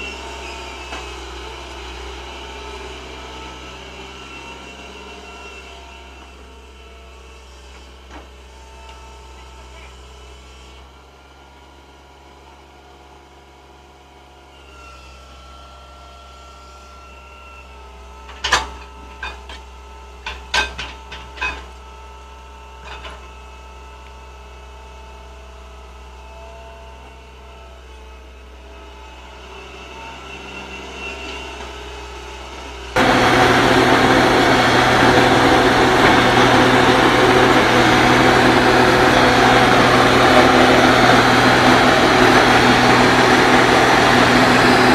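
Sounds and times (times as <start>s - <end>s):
excavator diesel engines running: 0.0s - 13.0s, 17.6s - 44.9s
close excavator engine: 0.0s - 14.5s, 15.2s - 44.9s.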